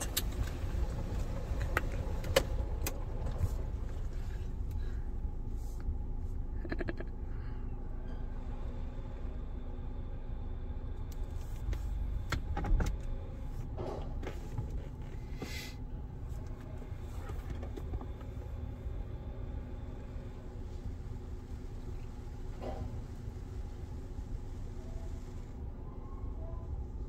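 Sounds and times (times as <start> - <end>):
car wash machinery rumble: 0.0 - 27.0.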